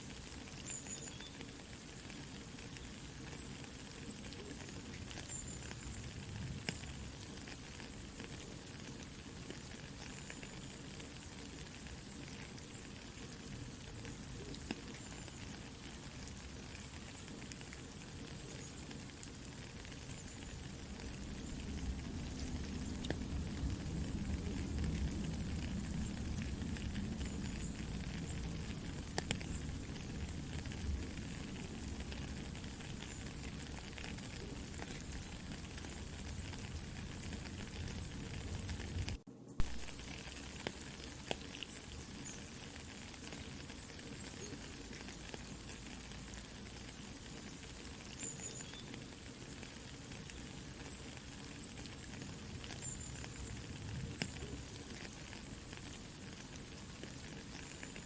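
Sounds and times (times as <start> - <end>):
campfire crackling and popping: 0.0 - 58.0
soft steady rain: 0.0 - 58.0.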